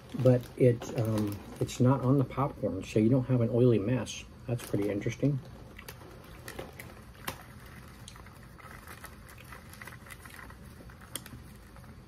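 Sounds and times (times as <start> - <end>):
popcorn being chewed: 0.0 - 2.6, 4.5 - 12.0.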